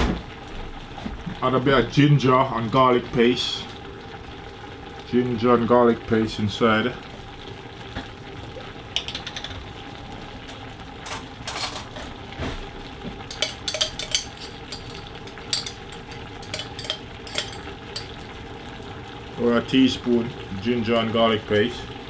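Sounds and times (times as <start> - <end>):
pot simmering: 0.0 - 22.0.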